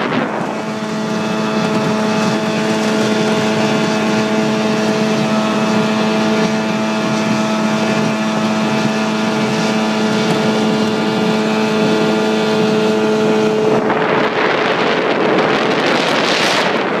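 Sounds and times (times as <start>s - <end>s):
small boat motor running: 0.0s - 17.0s.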